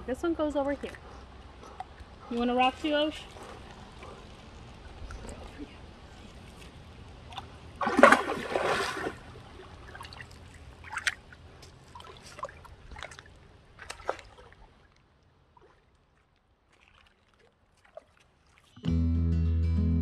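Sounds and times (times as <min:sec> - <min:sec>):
dogs splashing in shallow water: 0:00.5 - 0:18.8.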